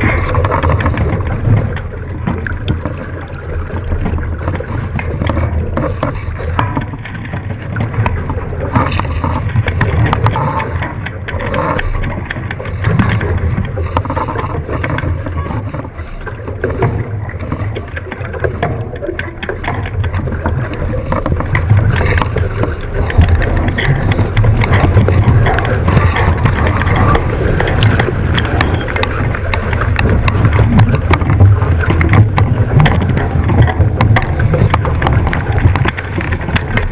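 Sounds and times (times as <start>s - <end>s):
water rushing along hull: 0.0s - 36.9s.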